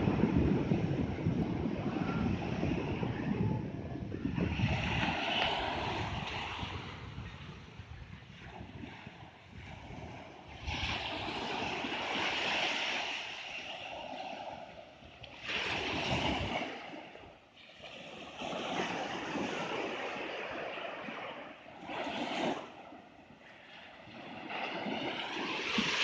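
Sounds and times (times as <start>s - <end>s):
small waves washing up a beach: 0.0s - 26.0s.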